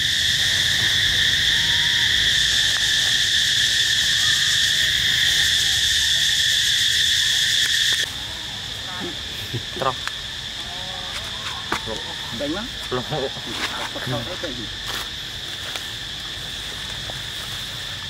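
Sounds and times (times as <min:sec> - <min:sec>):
forest background: 0:00.0 - 0:18.0
forest insects droning: 0:00.0 - 0:18.0.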